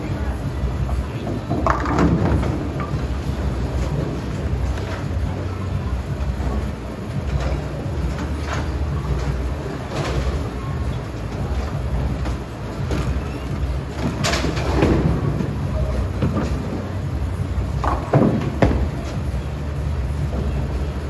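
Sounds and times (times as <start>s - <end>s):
bowling balls rolling on lanes: 0.0s - 21.0s
bowling pins clattering: 0.8s - 21.0s.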